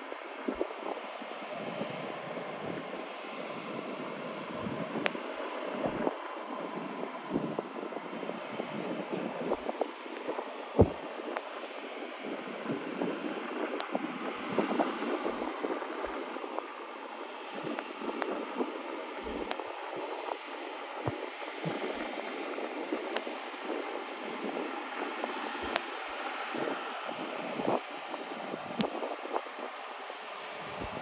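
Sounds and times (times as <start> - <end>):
distant jet engines rushing: 0.0 - 31.0
faint crackles: 0.0 - 31.0.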